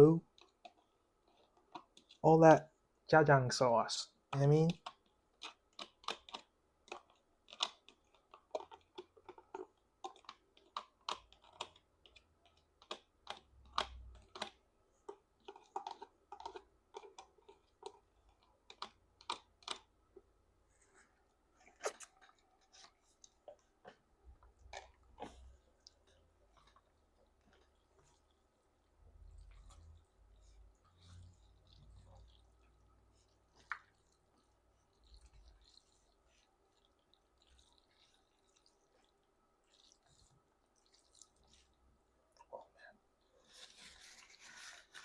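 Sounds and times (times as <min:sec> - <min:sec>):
wet clicks of noodles mixing: 0:00.1 - 0:45.0.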